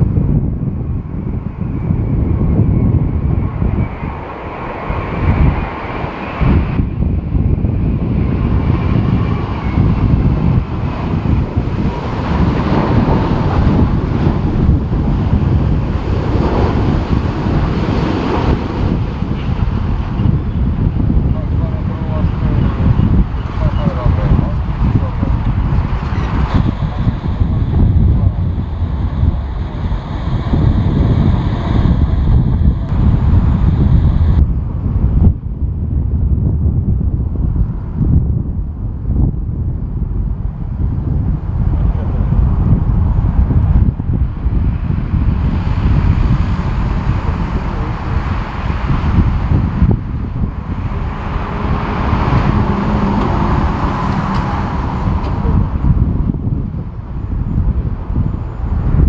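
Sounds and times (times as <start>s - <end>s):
gusty wind buffeting microphone: 0.0s - 59.0s
jet airliner noise: 0.0s - 59.0s
faint engine whine: 0.2s - 35.9s, 38.6s - 59.0s.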